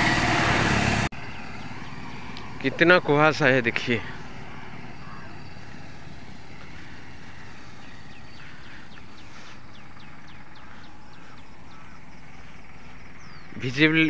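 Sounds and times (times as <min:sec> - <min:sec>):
vehicle road noise rushing: 0:00.0 - 0:14.0.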